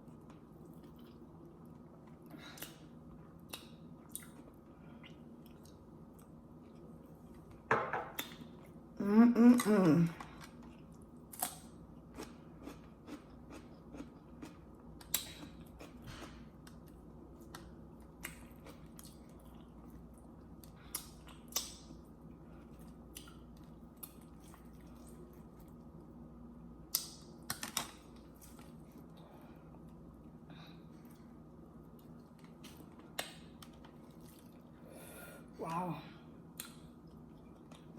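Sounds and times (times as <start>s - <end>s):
steady low hum: 0.0s - 37.9s
person chewing food: 0.1s - 8.8s, 10.1s - 26.0s, 26.9s - 34.8s, 36.5s - 37.9s.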